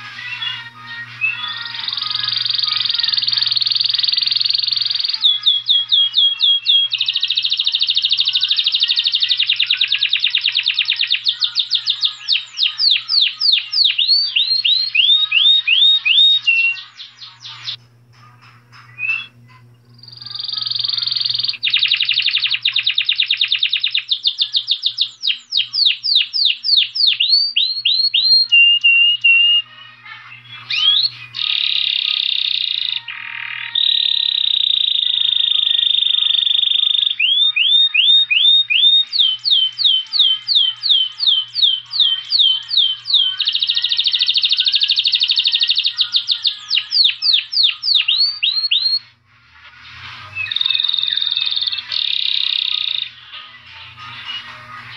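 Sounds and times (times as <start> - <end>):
finch singing: 0.0 - 17.8, 18.8 - 49.1, 50.1 - 53.3.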